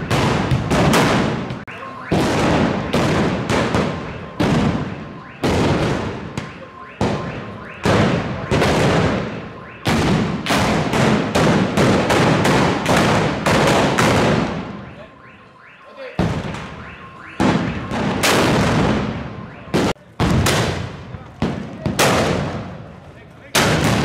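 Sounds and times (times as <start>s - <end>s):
black-powder guns firing: 0.0s - 15.0s, 16.2s - 22.8s, 23.5s - 24.0s.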